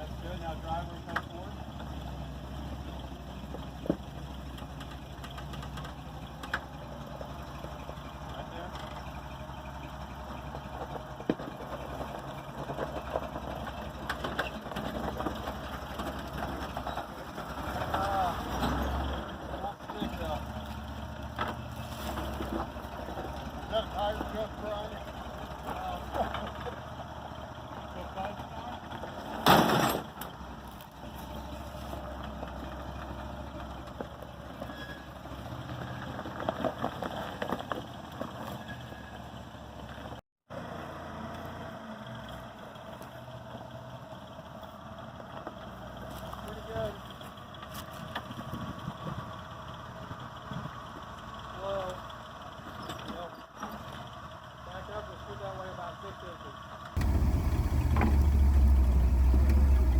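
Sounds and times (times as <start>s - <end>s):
vehicle engine running slowly: 0.0s - 29.3s, 30.2s - 59.9s.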